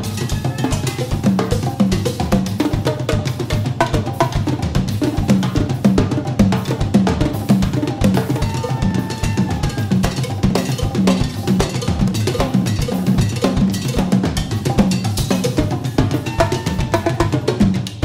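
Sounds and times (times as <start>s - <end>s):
jazz drum kit groove: 0.0s - 18.0s.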